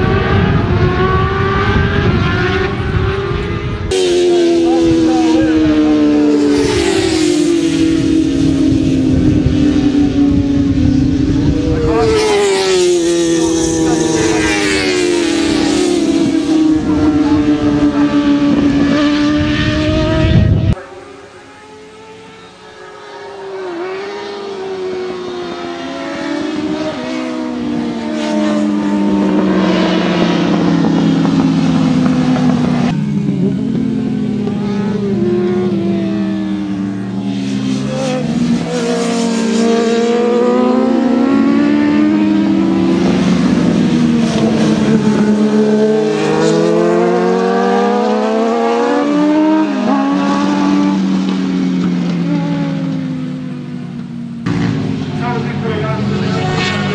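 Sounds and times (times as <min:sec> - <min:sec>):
racing motorcycles revving: 0:00.0 - 0:56.9.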